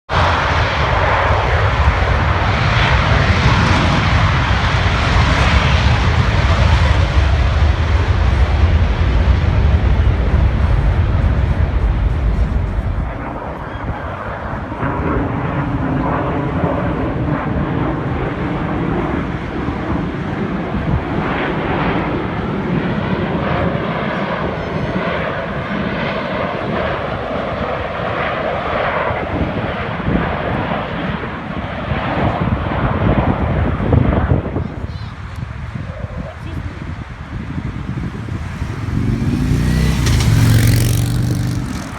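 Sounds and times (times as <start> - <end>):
jet aircraft flying over: 0.1 - 41.9.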